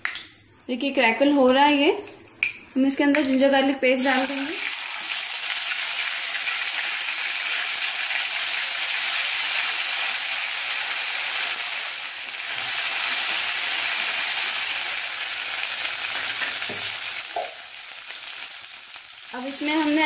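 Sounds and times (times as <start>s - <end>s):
paste sizzling in hot oil: 1.2s - 20.0s.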